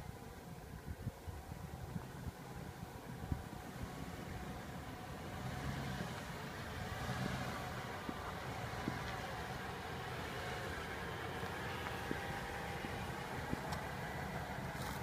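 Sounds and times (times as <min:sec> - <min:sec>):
suv engine at low revs: 0:00.0 - 0:15.0.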